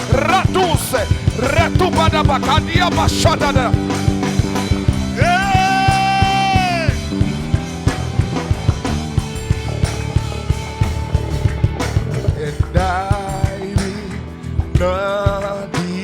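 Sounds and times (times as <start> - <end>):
drum kit beat: 0.0 - 16.0
gospel band playing upbeat groove: 0.0 - 16.0.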